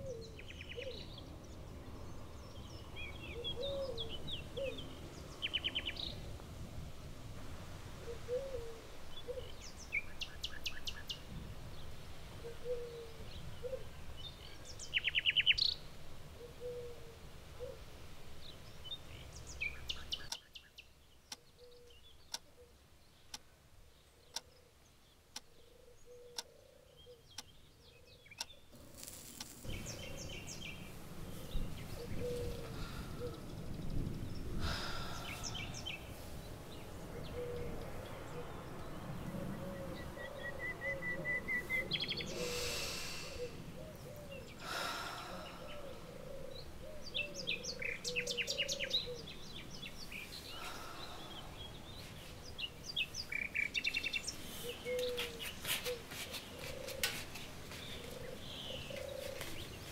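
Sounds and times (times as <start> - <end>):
birds chirping: 0.0 - 6.4, 8.0 - 59.9.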